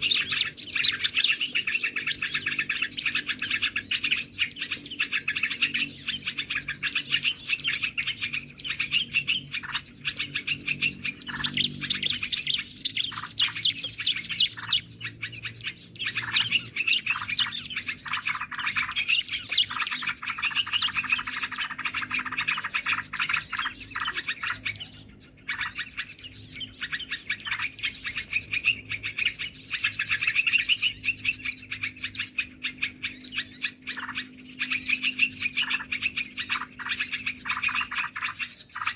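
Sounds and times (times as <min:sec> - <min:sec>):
many small birds chattering: 0:00.0 - 0:38.9.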